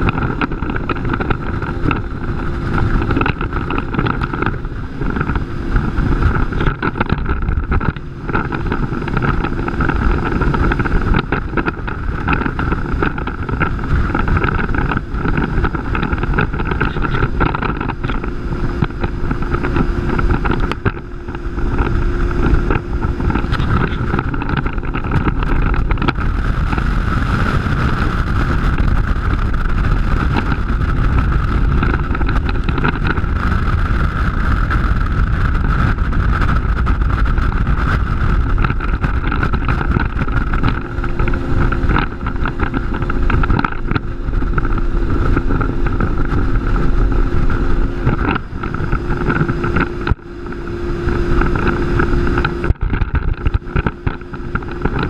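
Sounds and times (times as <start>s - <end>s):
outboard motor running at high speed: 0.0s - 55.0s
water rushing off hull: 0.0s - 55.0s
wind buffeting microphone: 0.0s - 55.0s.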